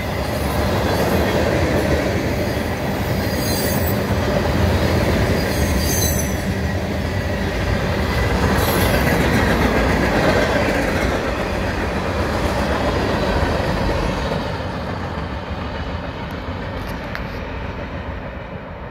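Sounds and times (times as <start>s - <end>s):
freight train wheels clattering: 0.0s - 18.9s.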